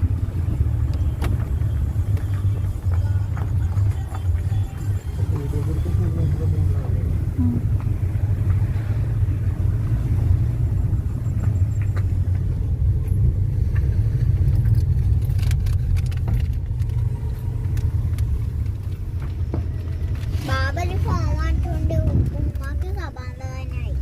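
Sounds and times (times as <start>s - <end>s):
car driving: 0.0s - 24.0s.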